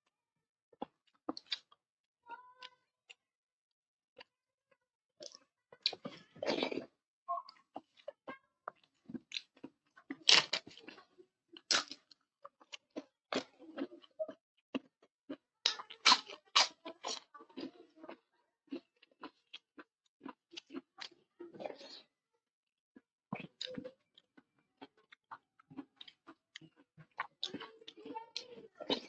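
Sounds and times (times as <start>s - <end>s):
person chewing and crunching food: 0.8s - 1.8s, 5.2s - 22.1s, 23.3s - 29.0s.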